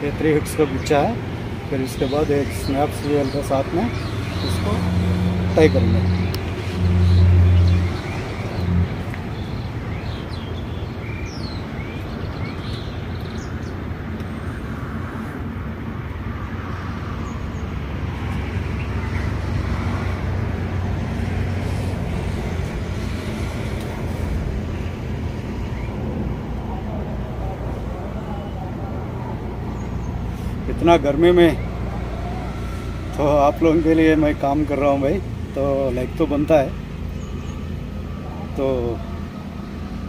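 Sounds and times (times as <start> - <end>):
distant road traffic rumble: 0.0 - 40.0
engine hum: 0.0 - 40.0.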